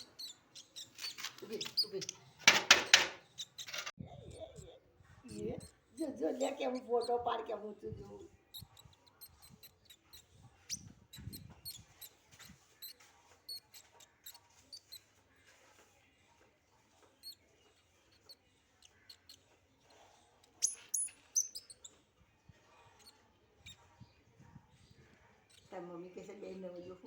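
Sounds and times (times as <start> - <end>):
baby squirrel squeaking: 0.0 - 15.2, 17.2 - 22.1, 22.7 - 27.0.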